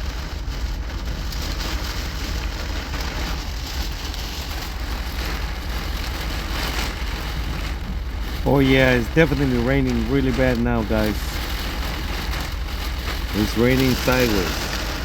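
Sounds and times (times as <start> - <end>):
heavy rain hissing: 0.0 - 15.0
low thunder rumble: 0.0 - 15.0.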